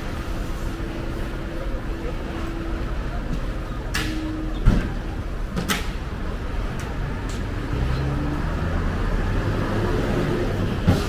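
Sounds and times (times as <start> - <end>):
engine hum: 0.0 - 11.0
traffic rumble: 0.0 - 11.0.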